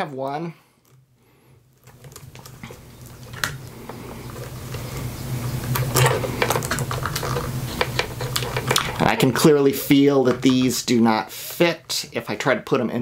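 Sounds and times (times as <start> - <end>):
plastic connectors rubbing and scraping: 1.6 - 12.3.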